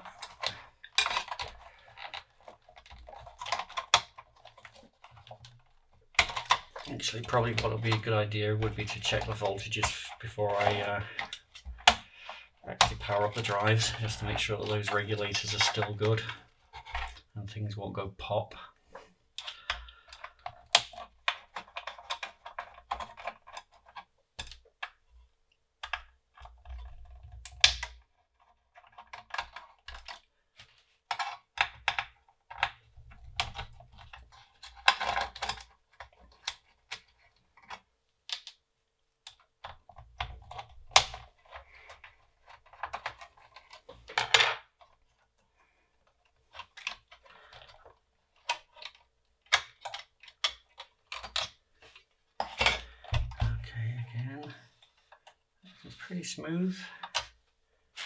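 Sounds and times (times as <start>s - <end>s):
small parts and tools clattering: 0.0s - 17.4s, 18.2s - 56.1s, 56.8s - 58.0s.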